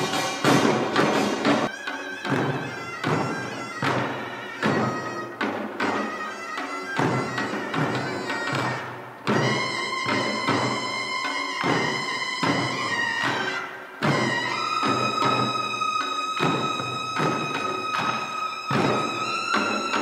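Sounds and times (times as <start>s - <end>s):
drum strokes: 0.0s - 20.0s
high wind instrument note: 0.0s - 20.0s.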